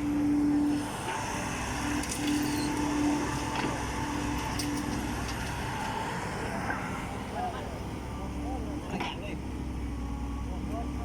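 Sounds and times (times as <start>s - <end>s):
heavy diesel machinery running: 0.0s - 11.0s
machinery whine: 0.0s - 11.0s.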